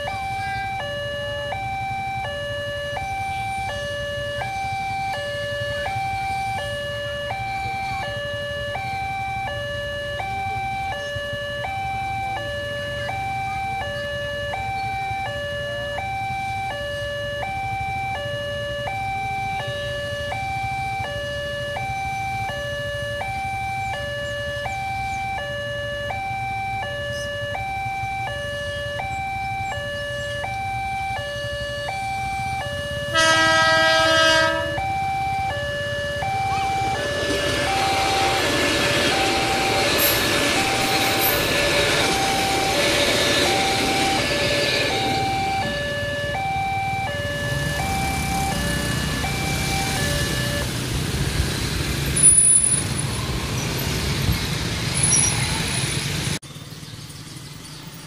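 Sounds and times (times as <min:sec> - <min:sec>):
two-tone crossing alarm: 0:00.0 - 0:56.5.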